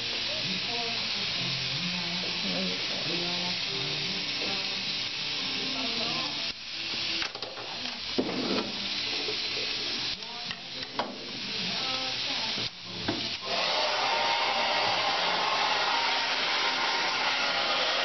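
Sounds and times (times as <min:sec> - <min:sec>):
hair dryer running: 0:00.0 - 0:18.0
rushing hiss: 0:00.0 - 0:18.0.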